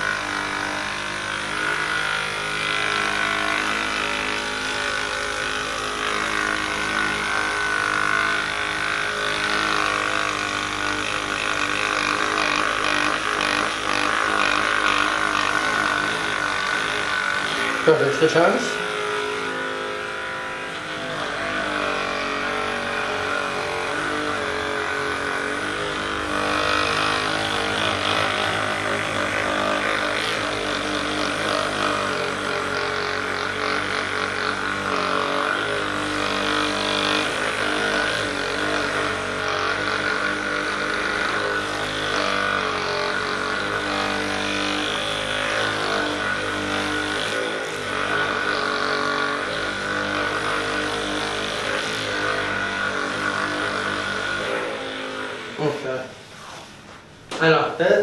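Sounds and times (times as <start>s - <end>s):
massage gun motor hum: 0.0s - 57.8s.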